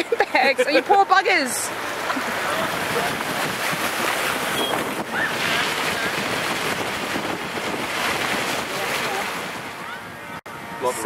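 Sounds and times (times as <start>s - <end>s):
floodwater sloshing: 0.0s - 10.4s
wind buffeting microphone: 1.1s - 10.8s.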